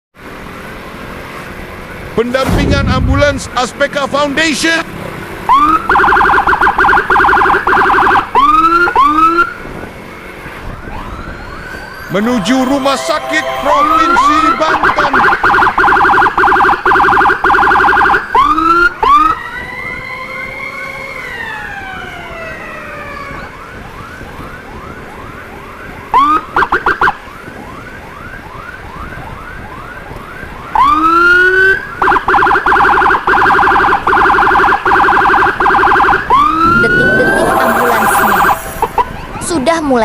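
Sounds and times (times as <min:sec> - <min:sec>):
emergency sirens: 0:04.7 - 0:40.0.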